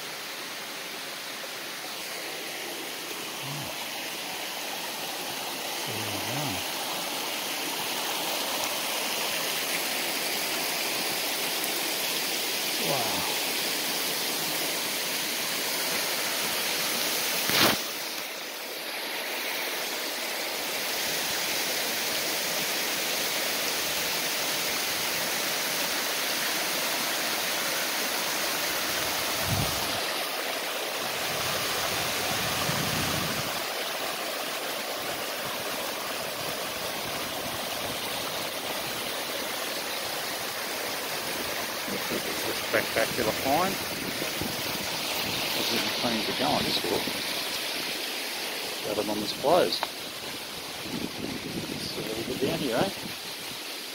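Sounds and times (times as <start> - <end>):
water rushing over rocks: 0.0 - 53.9.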